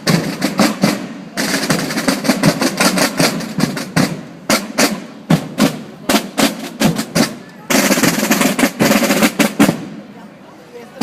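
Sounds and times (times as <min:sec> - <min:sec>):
marching drums rolling: 0:00.0 - 0:11.0.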